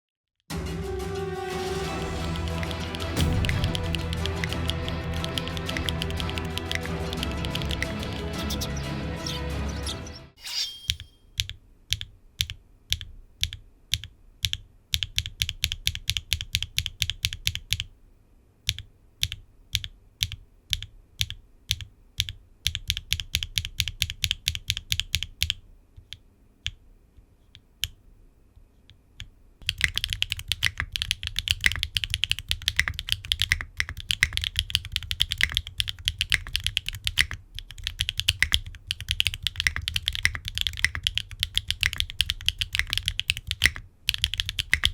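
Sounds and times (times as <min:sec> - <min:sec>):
mechanical keyboard typing: 0:02.2 - 0:08.6, 0:11.4 - 0:17.9, 0:18.7 - 0:26.8, 0:29.6 - 0:44.9.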